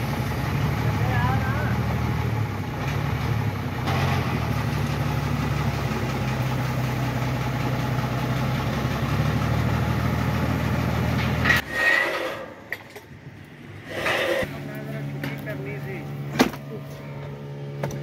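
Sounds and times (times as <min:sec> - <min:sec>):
truck engine running: 0:00.0 - 0:11.6, 0:12.8 - 0:18.0.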